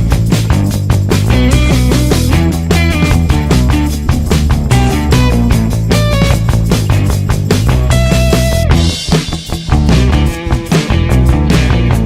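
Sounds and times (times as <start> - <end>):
upbeat rock music: 0.0 - 12.0.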